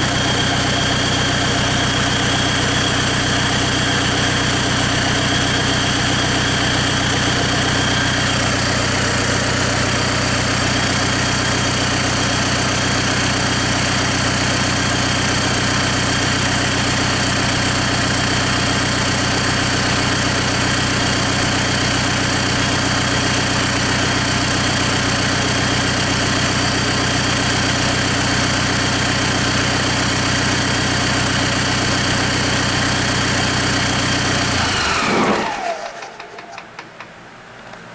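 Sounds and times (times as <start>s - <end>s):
diesel engine idling: 0.0s - 37.4s.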